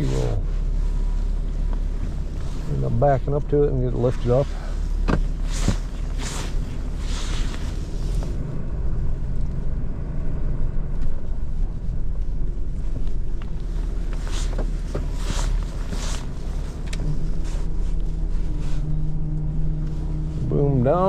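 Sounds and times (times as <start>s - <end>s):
tow truck engine running: 0.0s - 21.0s.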